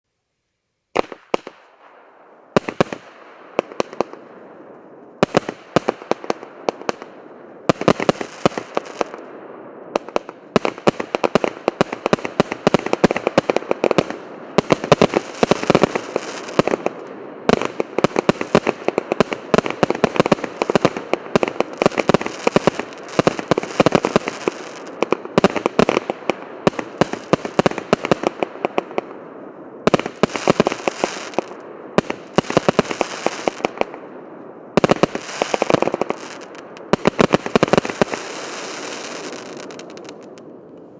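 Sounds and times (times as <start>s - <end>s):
continuous fireworks hiss: 0.9s - 40.9s.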